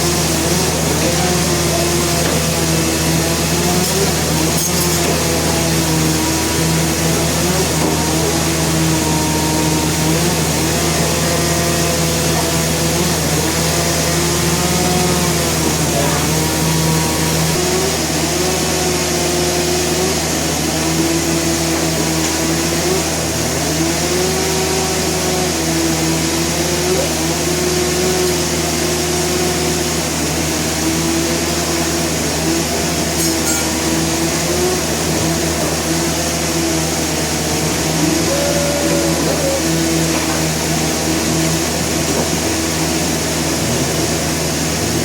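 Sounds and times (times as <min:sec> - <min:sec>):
saw droning: 0:00.0 - 0:45.0
sawmill engine hum: 0:00.0 - 0:45.0.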